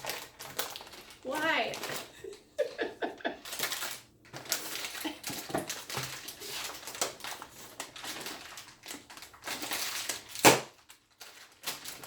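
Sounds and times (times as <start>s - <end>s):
dogs crunching treats: 0.0s - 12.0s.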